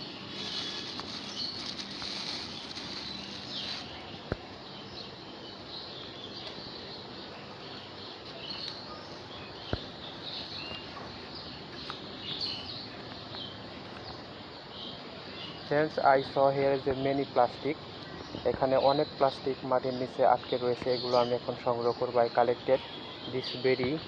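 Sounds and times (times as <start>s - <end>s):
birds chirping: 0.0s - 24.0s
outdoor background hiss: 0.0s - 24.0s.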